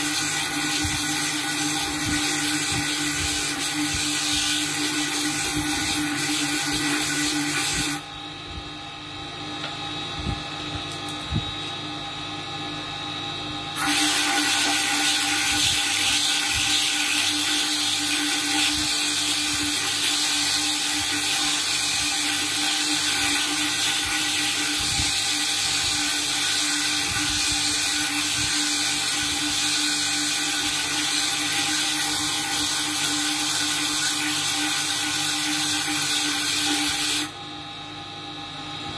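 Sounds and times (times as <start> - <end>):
spindle motor hum: 0.0 - 38.9.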